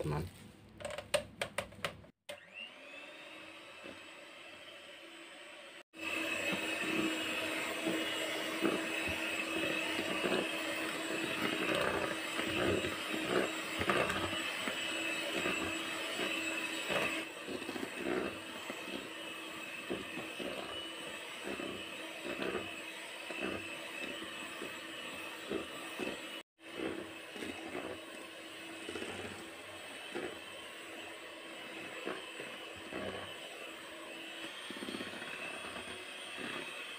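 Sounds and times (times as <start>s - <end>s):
electric mixer motor hum: 2.3s - 36.9s
mixer beaters scraping a bowl: 6.0s - 36.9s.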